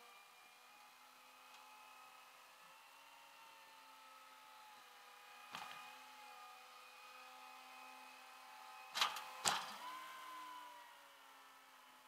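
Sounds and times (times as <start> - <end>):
tow truck engine humming: 0.0 - 12.0.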